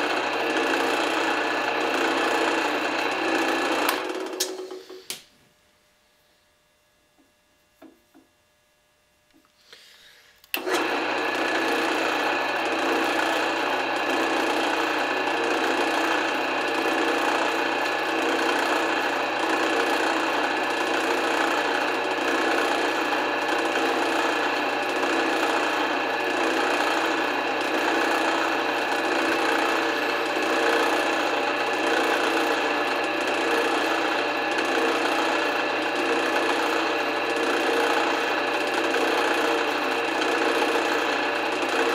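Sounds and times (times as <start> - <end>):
drill press motor hum and whine: 0.0 - 5.2, 9.2 - 41.9.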